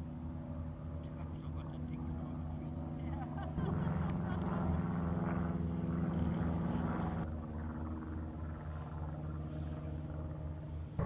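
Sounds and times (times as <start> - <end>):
propeller planes droning overhead: 0.0 - 11.0.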